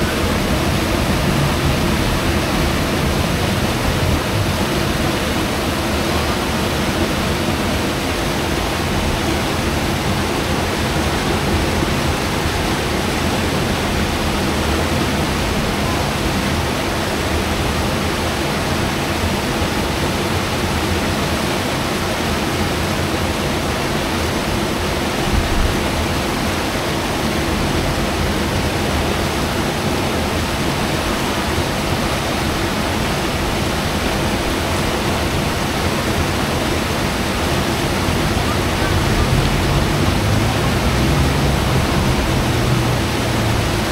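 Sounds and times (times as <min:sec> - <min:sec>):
river rapids rushing: 0:00.0 - 0:43.9.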